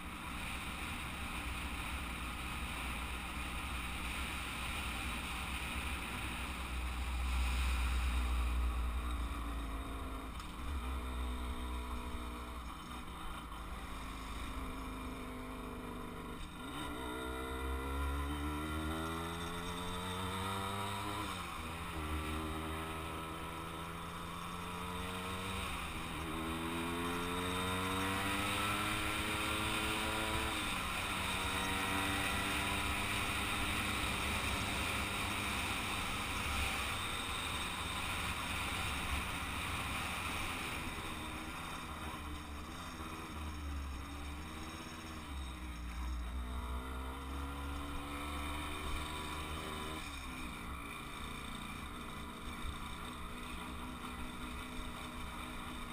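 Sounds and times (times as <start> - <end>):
two-stroke moped engine: 0.0 - 55.9.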